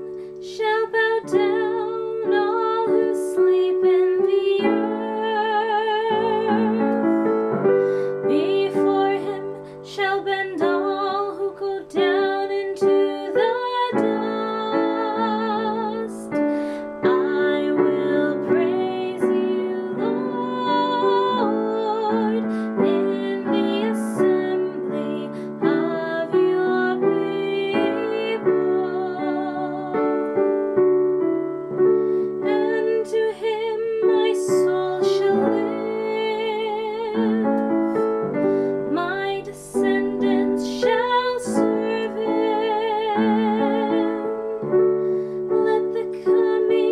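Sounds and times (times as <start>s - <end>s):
woman singing: 0.0s - 30.8s, 31.7s - 46.9s
keyboard accompaniment: 0.0s - 46.9s.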